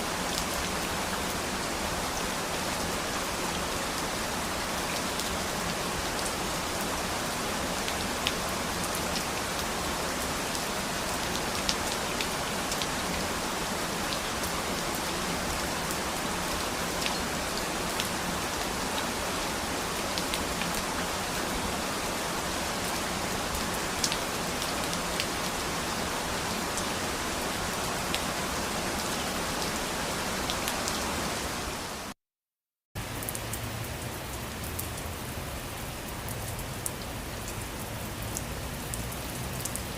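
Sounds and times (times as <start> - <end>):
steady rain falling: 0.0 - 32.2, 33.0 - 39.9.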